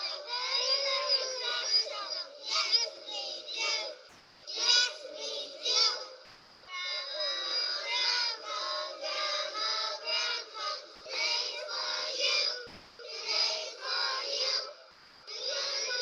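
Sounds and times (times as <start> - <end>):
children singing in unison: 0.0 - 16.0.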